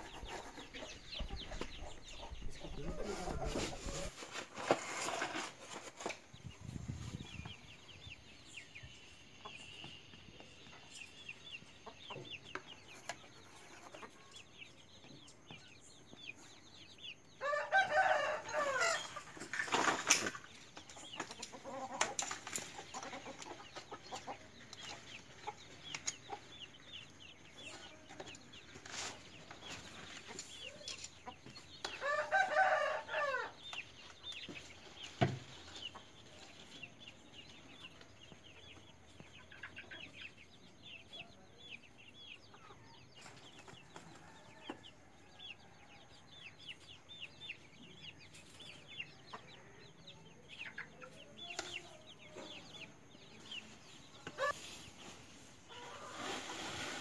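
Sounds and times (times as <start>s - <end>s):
chickens clucking and peeping: 0.0s - 57.0s.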